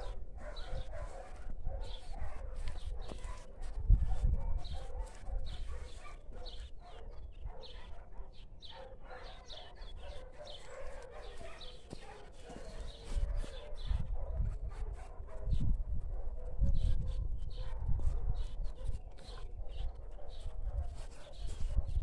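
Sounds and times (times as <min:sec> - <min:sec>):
dogs barking: 0:00.0 - 0:22.0.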